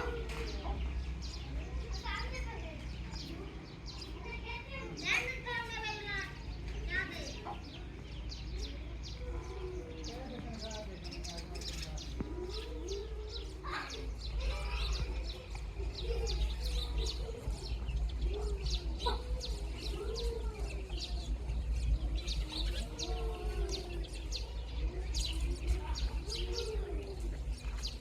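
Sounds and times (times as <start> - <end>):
baby chicks peeping: 0.0 - 28.0.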